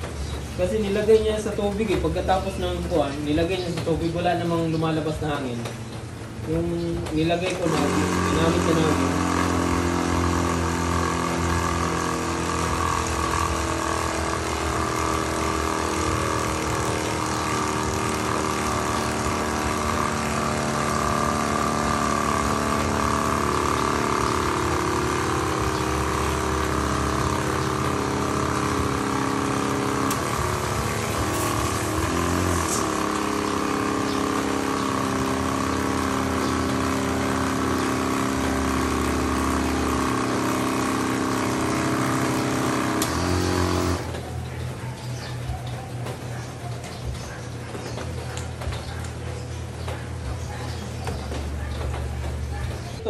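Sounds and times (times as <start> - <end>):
electric air pump humming: 0.0 - 53.0.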